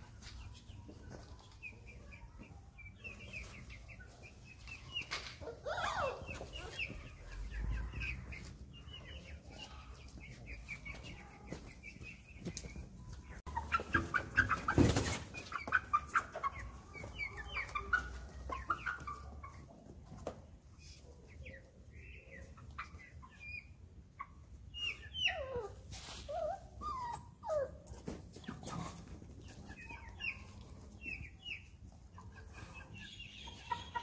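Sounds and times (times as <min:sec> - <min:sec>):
hens clucking: 0:00.2 - 0:34.0.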